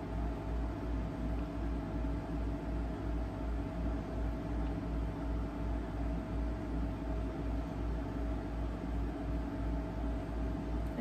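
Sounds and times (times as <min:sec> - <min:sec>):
faint steady tones: 0:00.0 - 0:11.0
room noise hum and hiss: 0:00.0 - 0:11.0.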